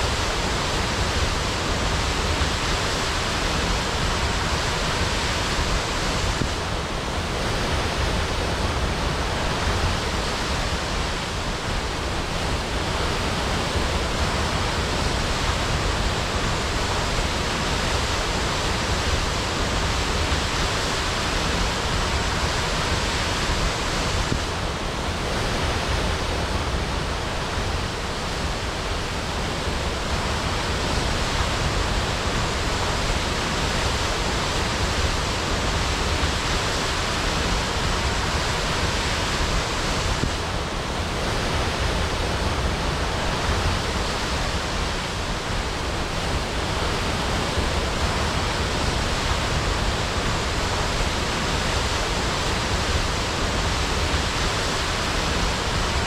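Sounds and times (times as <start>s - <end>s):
waterfall crashing: 0.0s - 56.0s.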